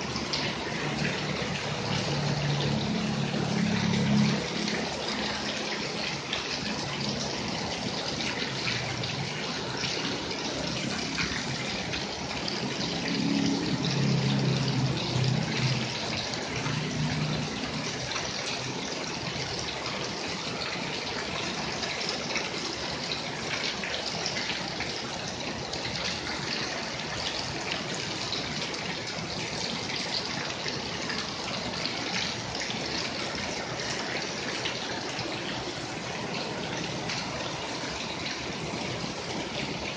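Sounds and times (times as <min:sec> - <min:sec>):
heavy rain on paving: 0:00.0 - 0:39.9
water splashing off roof: 0:00.0 - 0:39.9.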